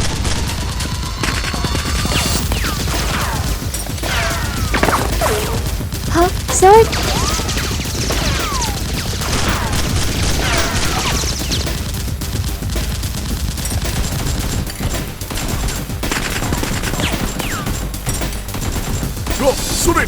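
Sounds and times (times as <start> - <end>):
rapid gunfire: 0.0 - 20.0.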